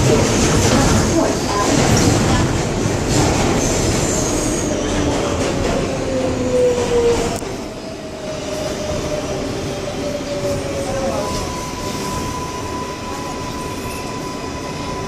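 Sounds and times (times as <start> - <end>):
train wheel and track rumble: 0.0 - 15.0.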